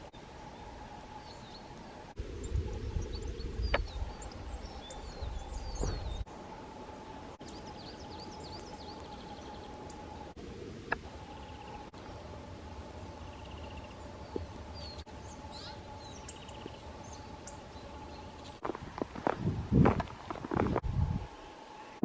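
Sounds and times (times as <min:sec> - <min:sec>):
small songbirds chirping: 0:00.0 - 0:19.6
low rumble: 0:00.0 - 0:22.0.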